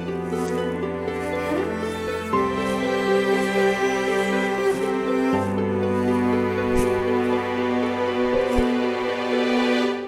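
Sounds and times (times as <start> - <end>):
slow sad background music: 0.0 - 10.0.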